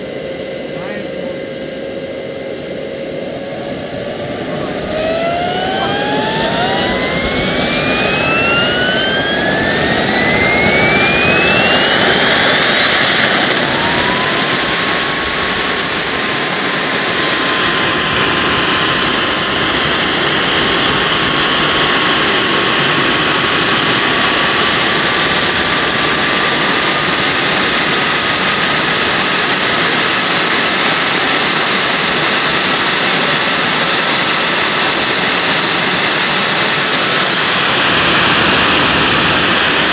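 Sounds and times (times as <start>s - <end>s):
turbine engine whine: 0.0s - 39.9s
exhaust rushing: 2.2s - 30.0s, 34.9s - 39.9s.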